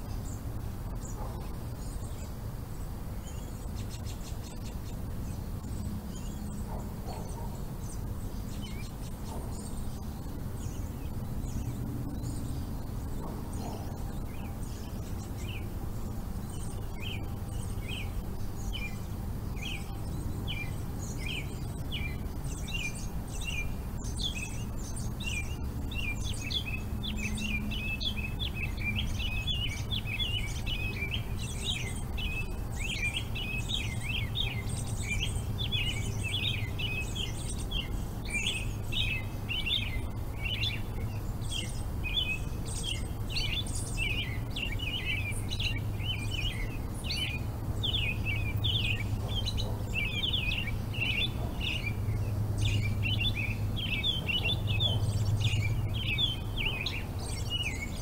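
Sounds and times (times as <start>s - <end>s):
birds chirping and twittering: 0.0s - 58.0s
steady low hum: 0.0s - 58.0s.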